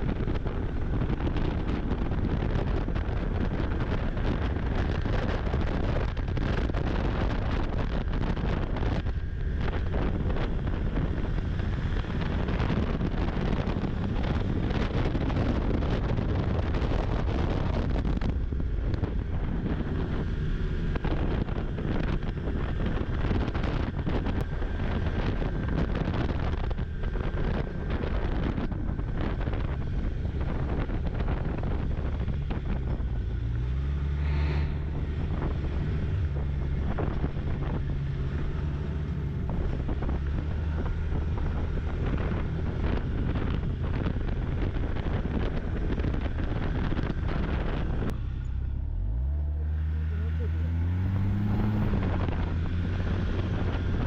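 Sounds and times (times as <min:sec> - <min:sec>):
snowmobile engine running: 0:00.0 - 0:54.0
wind rushing over microphone: 0:00.0 - 0:54.0.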